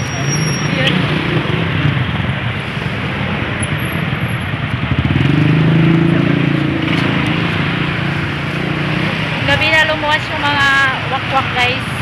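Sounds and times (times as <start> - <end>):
motorcycles passing: 0.0 - 12.0
road traffic passing: 0.0 - 12.0.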